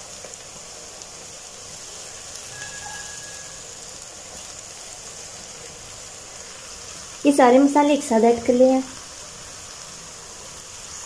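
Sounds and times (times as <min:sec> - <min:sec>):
onion frying in hot oil: 0:00.0 - 0:11.0.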